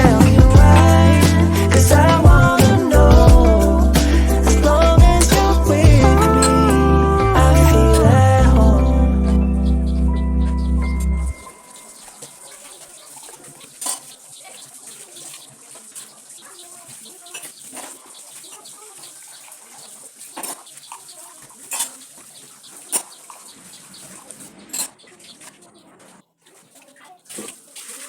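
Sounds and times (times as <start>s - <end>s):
water running: 0.0s - 24.7s.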